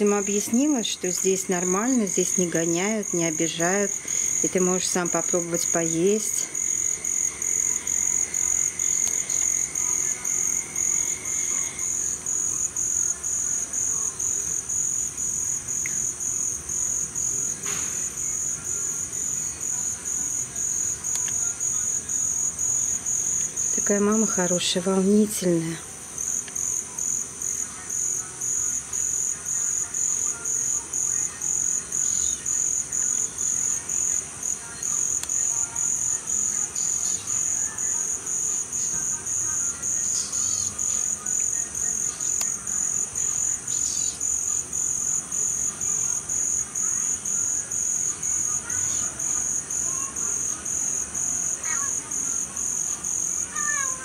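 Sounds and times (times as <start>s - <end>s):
cricket chirping: 0.0s - 54.0s
high insect trill: 0.0s - 54.0s.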